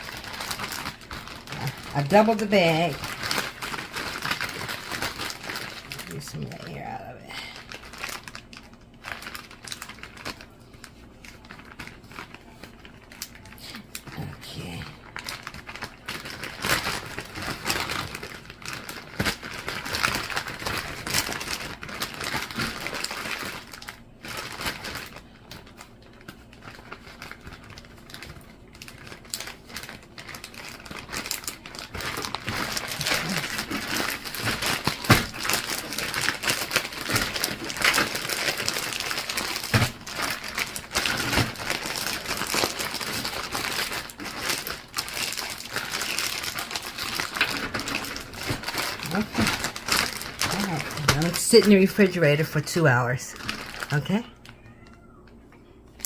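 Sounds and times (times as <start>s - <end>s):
plastic bag crinkling: 0.0s - 56.0s.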